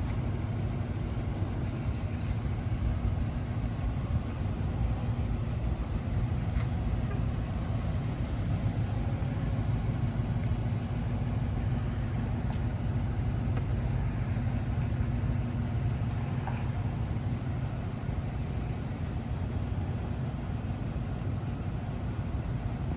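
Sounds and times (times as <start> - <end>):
pickup engine idling: 0.0 - 22.9.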